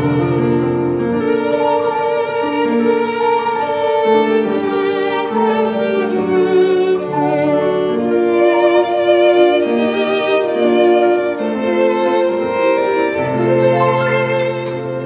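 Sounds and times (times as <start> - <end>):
slow bowed string music: 0.0 - 15.0.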